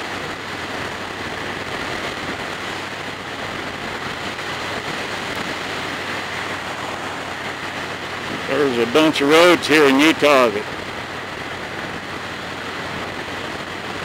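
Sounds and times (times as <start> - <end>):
motorcycle engine droning: 0.0 - 14.0
wind rush over microphone: 0.0 - 14.0.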